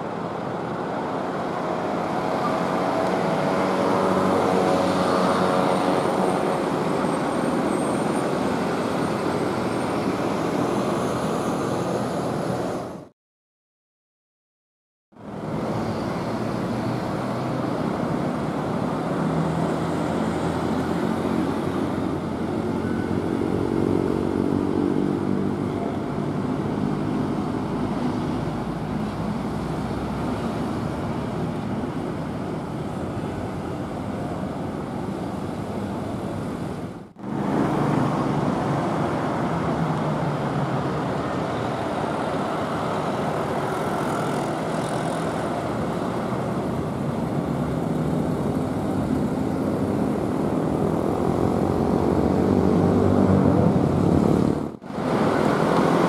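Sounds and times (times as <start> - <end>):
bus engine pulling away: 0.0 - 13.1, 15.2 - 56.0
road traffic: 0.0 - 13.1, 15.1 - 56.0
motorcycles passing: 1.9 - 10.8, 16.1 - 36.3, 37.2 - 56.0.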